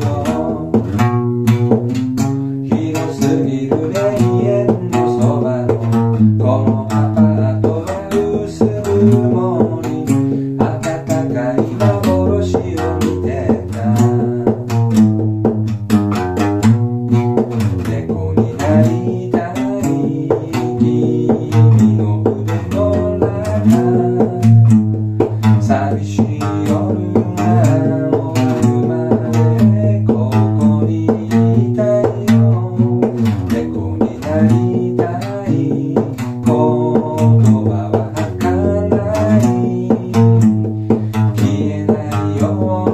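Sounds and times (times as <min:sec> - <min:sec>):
acoustic guitar plucked: 0:00.0 - 0:42.9.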